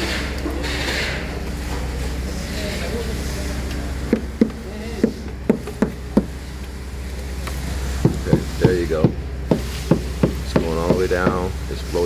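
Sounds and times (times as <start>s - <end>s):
truck engine droning: 0.0s - 12.0s.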